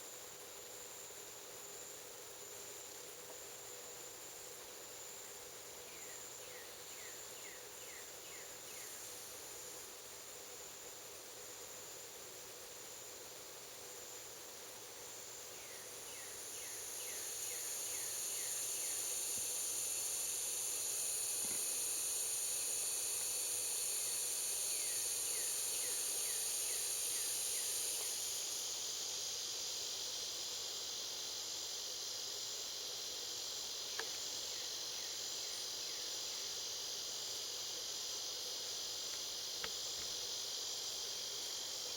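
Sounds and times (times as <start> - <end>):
high insect chorus: 0.0 - 41.9.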